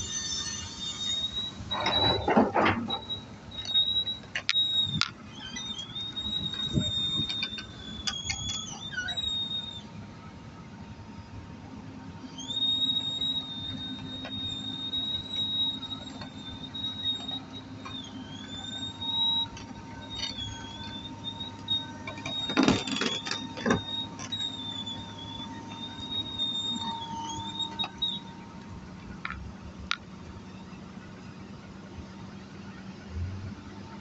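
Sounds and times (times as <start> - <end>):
high-pitched hydraulic whine: 0.0 - 10.0, 12.1 - 30.9
excavator diesel engine droning: 0.0 - 34.0.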